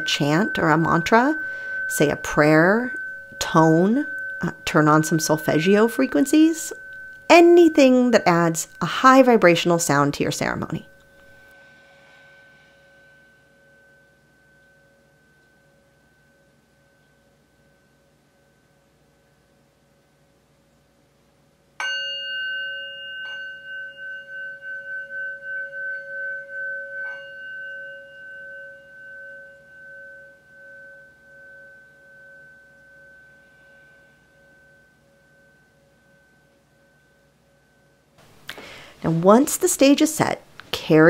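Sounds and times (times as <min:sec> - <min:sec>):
singing bowl ringing: 0:00.0 - 0:20.4, 0:21.8 - 0:39.9.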